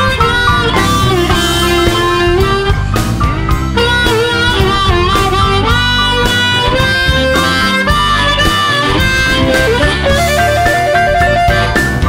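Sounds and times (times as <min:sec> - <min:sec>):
blues band with guitar: 0:00.0 - 0:12.0
blues harmonica solo: 0:00.0 - 0:12.0.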